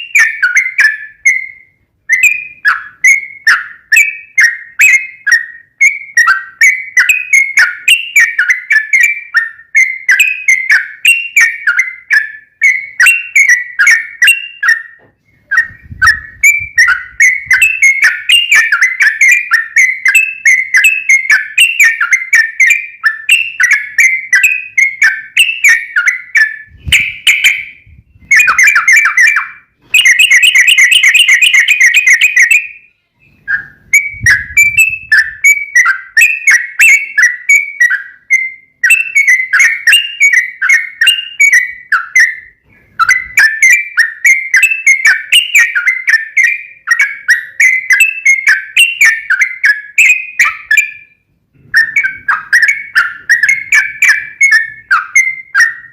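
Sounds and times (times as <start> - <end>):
bulbul chattering song: 0.0 - 55.9.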